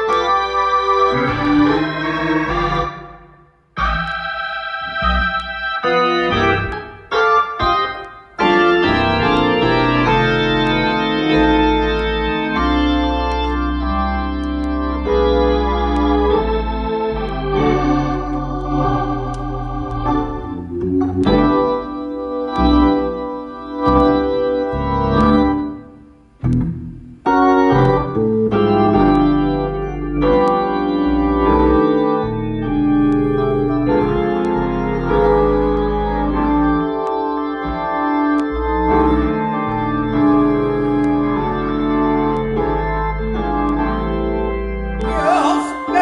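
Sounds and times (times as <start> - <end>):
organ chords with bass line: 0.0 - 46.0.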